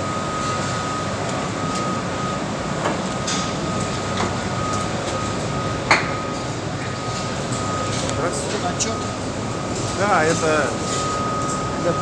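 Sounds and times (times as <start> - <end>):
machinery noise: 0.0 - 12.0
thin steady whine: 0.0 - 12.0.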